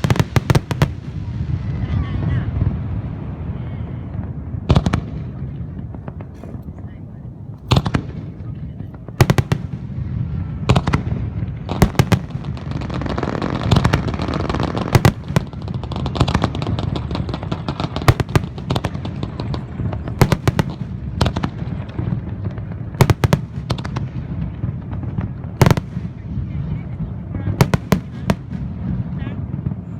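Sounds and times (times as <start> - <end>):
fireworks bangs: 0.0 - 29.9
fireworks crackling: 0.0 - 29.9.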